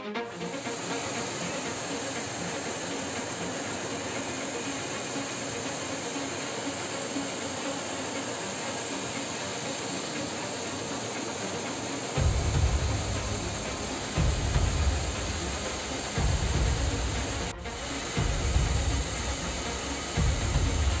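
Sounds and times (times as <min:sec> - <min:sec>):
jet cockpit engine and airflow hiss: 0:00.0 - 0:21.0.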